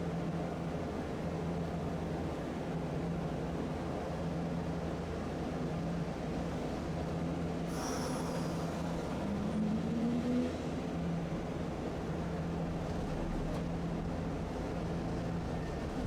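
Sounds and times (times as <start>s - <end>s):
streetcar rumbling on rails: 0.0s - 16.0s.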